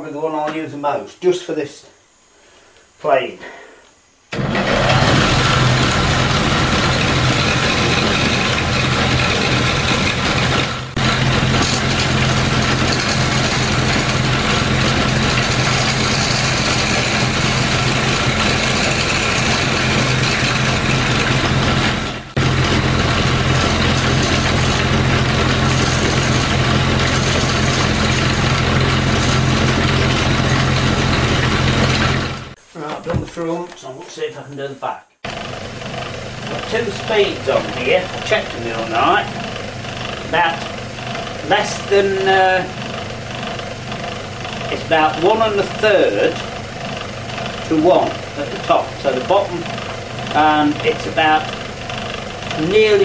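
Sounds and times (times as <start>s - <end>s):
wood lathe motor humming: 4.3s - 32.6s, 35.3s - 53.0s
chisel scraping spinning wood: 4.4s - 32.6s, 35.3s - 53.0s.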